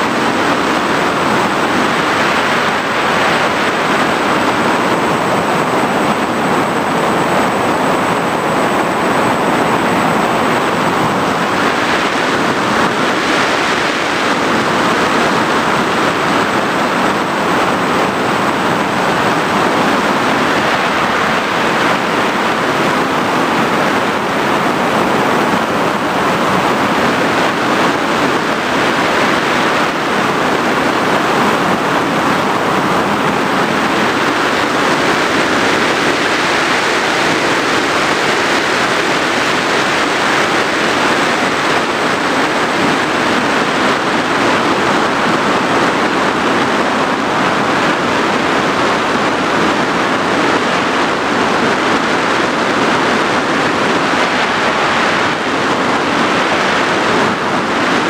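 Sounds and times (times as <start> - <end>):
drone propeller and wind noise: 0.0 - 58.0.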